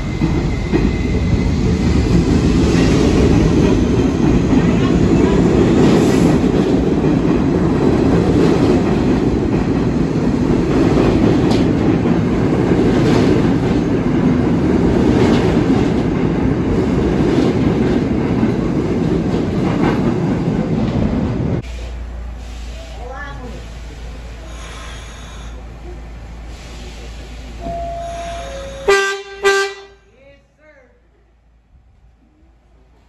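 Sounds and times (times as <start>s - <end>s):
subway train rumbling past: 0.0s - 30.1s.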